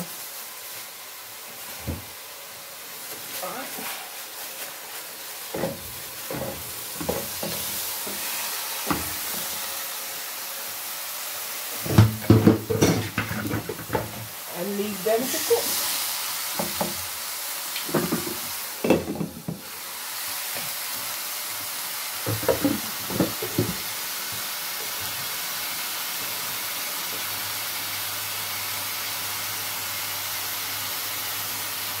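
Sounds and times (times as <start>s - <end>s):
chicken wings sizzling in a pot: 0.0s - 32.0s.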